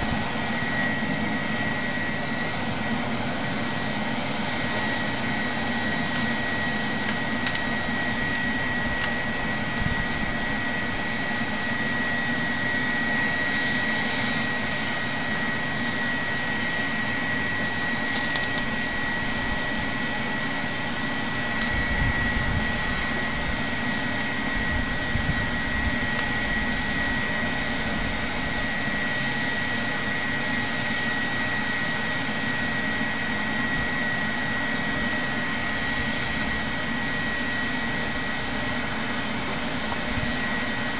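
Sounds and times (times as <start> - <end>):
shop vacuum blower whining drone: 0.0 - 40.9.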